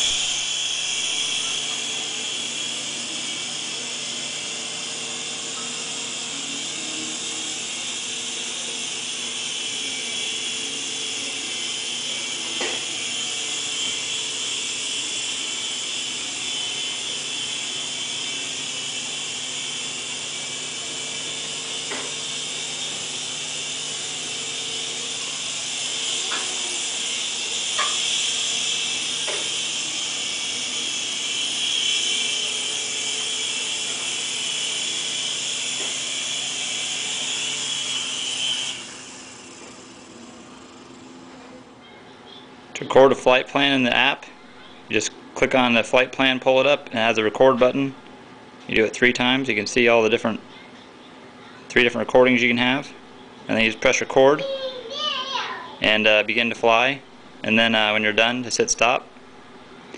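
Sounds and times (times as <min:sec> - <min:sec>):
toy helicopter rotors whirring: 0:00.0 - 0:47.6, 0:51.5 - 0:59.0.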